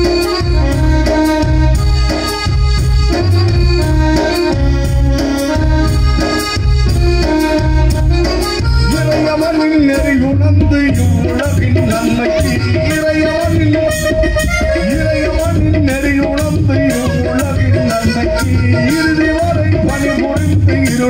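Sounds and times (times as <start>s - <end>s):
electronic keyboard melody: 0.0s - 21.0s
tabla beat: 0.0s - 21.0s.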